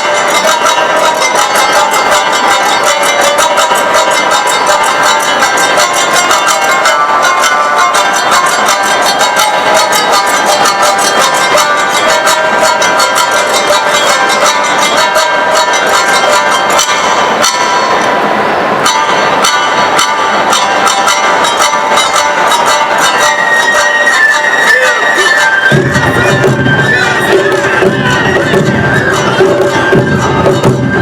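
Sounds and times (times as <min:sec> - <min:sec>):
drums: 0:00.0 - 0:31.0
hand gongs clanging: 0:00.0 - 0:31.0
held melody notes: 0:00.0 - 0:31.0.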